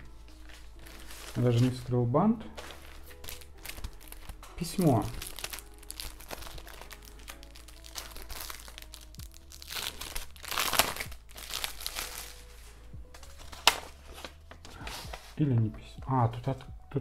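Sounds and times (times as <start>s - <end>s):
paper envelope rustling: 0.1s - 1.9s, 2.5s - 15.4s.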